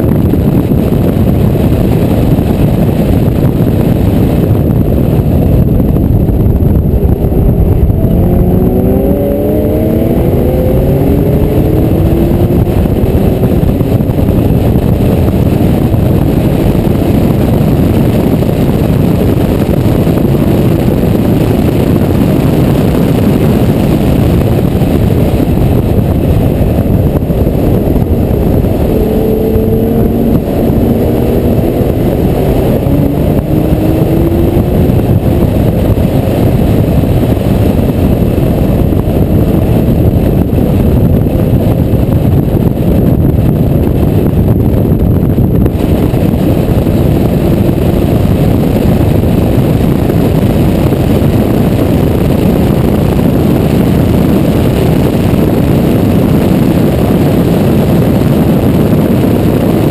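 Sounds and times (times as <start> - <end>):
car engine running hard: 0.0 - 59.9
wind and road noise: 0.0 - 59.9.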